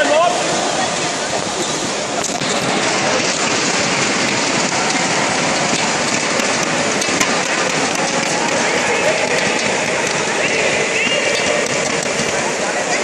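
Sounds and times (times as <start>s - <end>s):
splashing water in pool hall: 0.0s - 13.0s.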